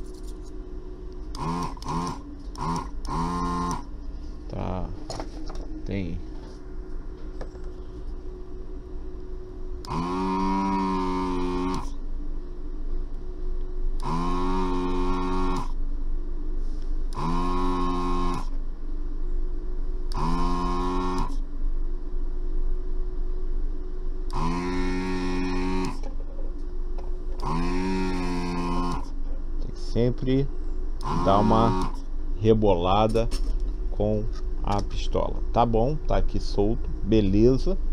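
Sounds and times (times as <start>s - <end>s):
vacuum pump humming: 0.0s - 37.9s.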